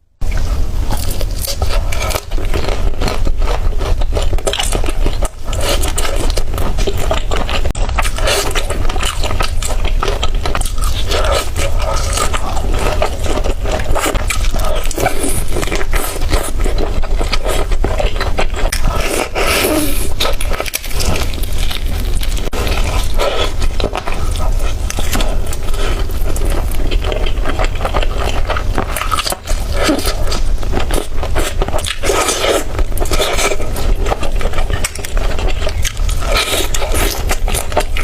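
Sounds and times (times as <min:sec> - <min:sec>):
steady low rumble: 0:00.0 - 0:38.0
scraping and crackling of food: 0:00.2 - 0:38.0.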